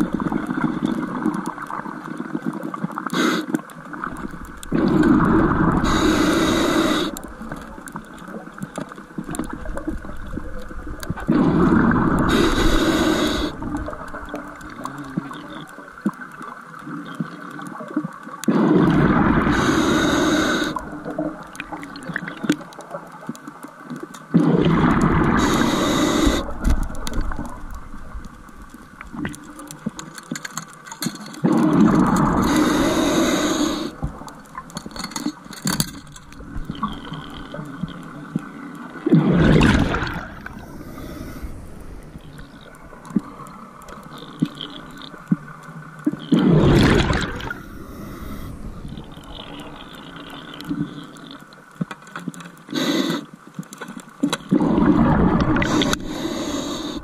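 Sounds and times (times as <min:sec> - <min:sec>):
faint crackling: 0:00.0 - 0:57.0
underwater bubbles from regulator: 0:03.9 - 0:23.2, 0:24.3 - 0:30.0, 0:31.4 - 0:34.8, 0:36.3 - 0:51.3, 0:54.3 - 0:56.5.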